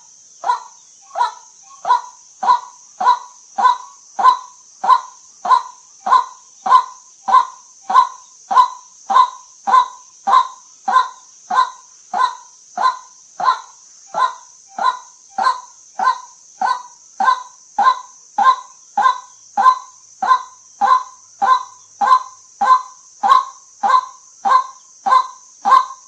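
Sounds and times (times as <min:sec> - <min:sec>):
steady high hiss: 0:00.0 - 0:26.0
waterhen calling: 0:00.0 - 0:26.0.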